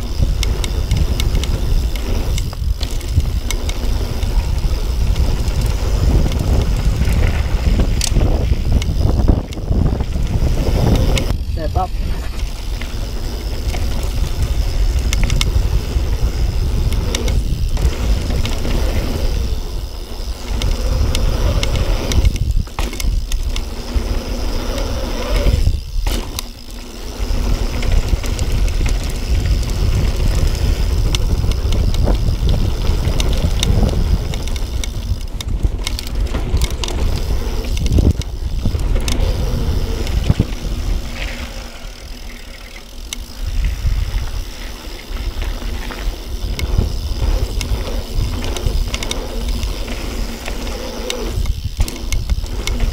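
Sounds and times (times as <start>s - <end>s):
bike clicks and rattles: 0.0s - 52.9s
tyres rumbling on dirt: 0.0s - 52.9s.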